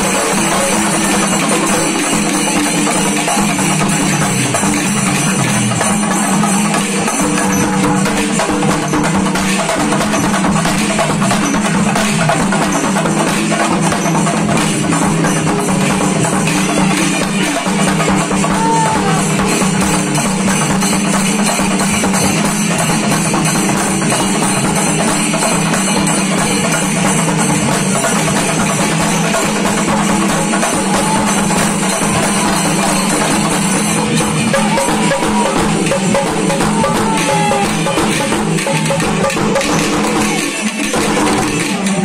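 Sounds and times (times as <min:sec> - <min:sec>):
percussion troupe drumming: 0:00.0 - 0:42.0.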